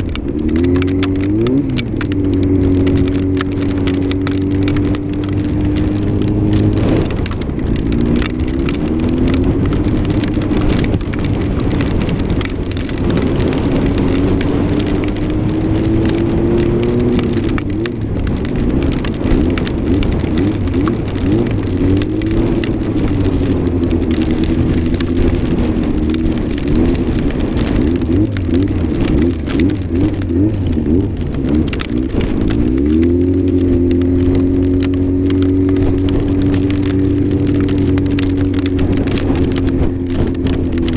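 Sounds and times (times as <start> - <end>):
hiss of wind and precipitation: 0.0 - 40.9
motorcycle engine revving: 0.0 - 40.9.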